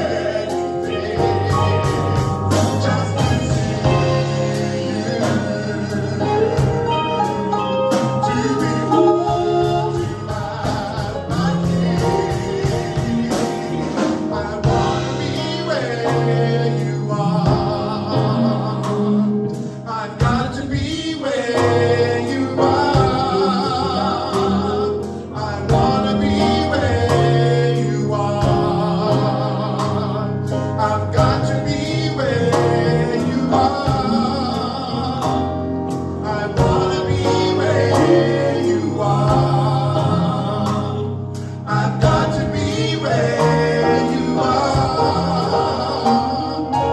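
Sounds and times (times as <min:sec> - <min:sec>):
live worship band with singers: 0:00.0 - 0:46.9.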